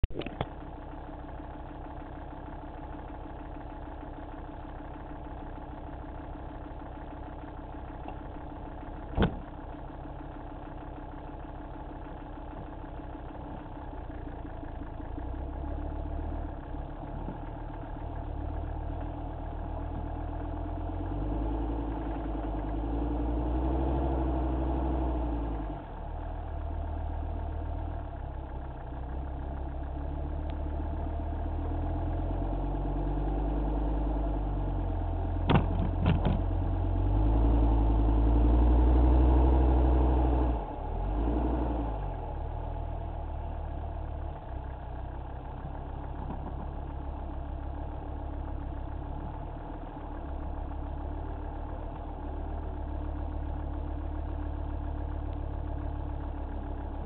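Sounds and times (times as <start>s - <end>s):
truck engine: 0.0s - 57.0s.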